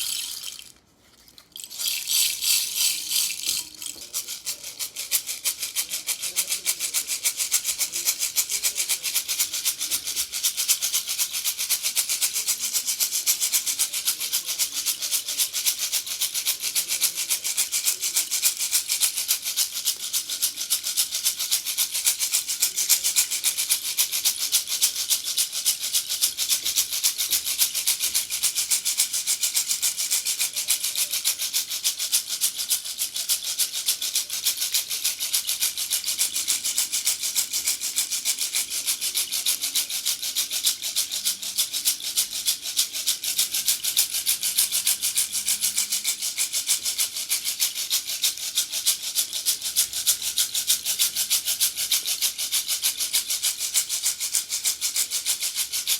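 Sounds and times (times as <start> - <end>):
rainstick pebbles trickling: 0.0 - 6.7, 14.1 - 55.9.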